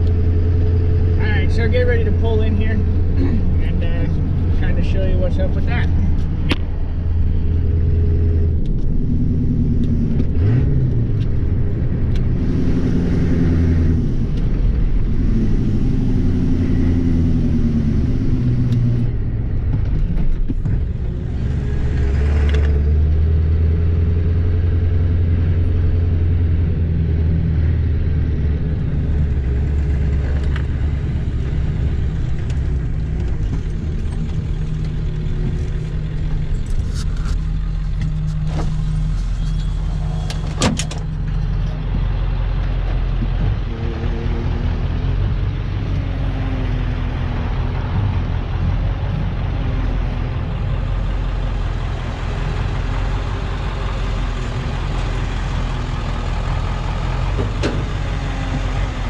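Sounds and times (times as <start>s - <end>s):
diesel truck engine: 0.0s - 59.0s
road noise: 0.0s - 59.0s.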